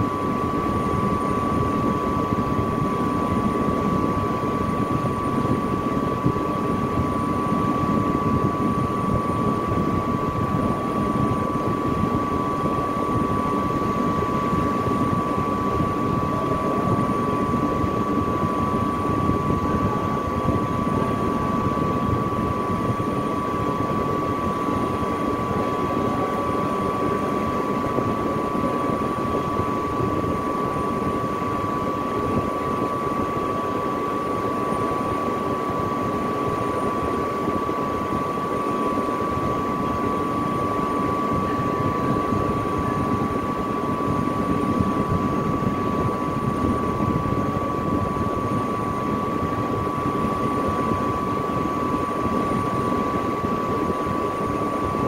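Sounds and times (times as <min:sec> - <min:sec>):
machinery drone with high whine: 0:00.0 - 0:55.0.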